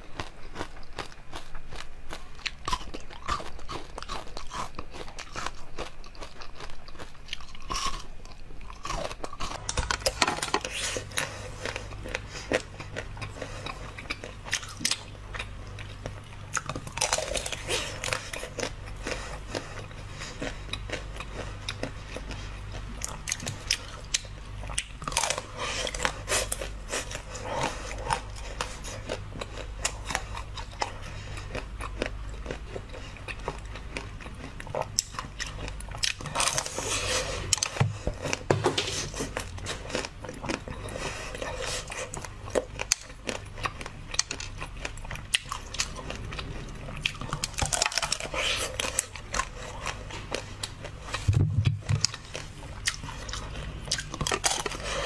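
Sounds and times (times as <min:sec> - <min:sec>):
crunching frozen treat: 0:00.0 - 0:55.0
quiet chewing: 0:00.0 - 0:55.0.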